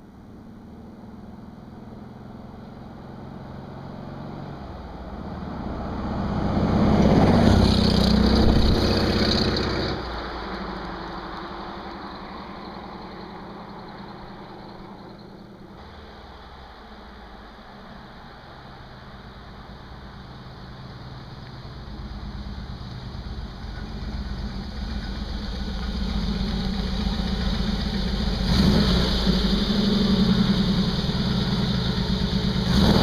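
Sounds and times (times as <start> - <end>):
car engine driving by: 0.0 - 33.0.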